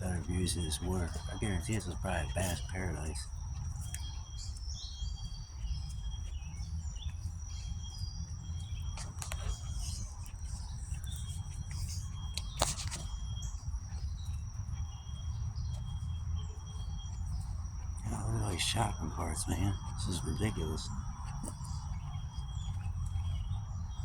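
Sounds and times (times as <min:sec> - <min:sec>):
bird chirps: 0:00.0 - 0:24.0
low rumble on microphone: 0:00.0 - 0:24.0.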